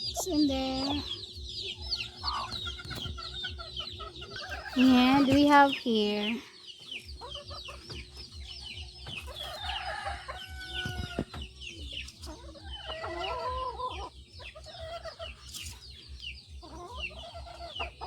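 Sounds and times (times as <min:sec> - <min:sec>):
chicks peeping: 0:00.0 - 0:18.0
hens clucking: 0:00.0 - 0:18.0.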